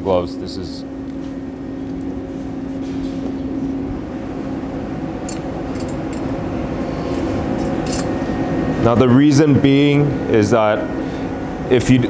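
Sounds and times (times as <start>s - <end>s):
background machinery hum: 0.0s - 12.0s.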